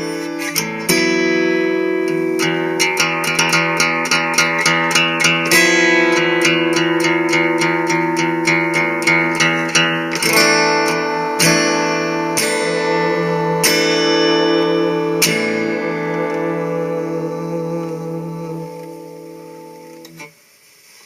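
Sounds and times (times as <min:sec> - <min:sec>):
ringing guitar chords: 0:00.0 - 0:20.4
guitar strumming: 0:00.0 - 0:20.6.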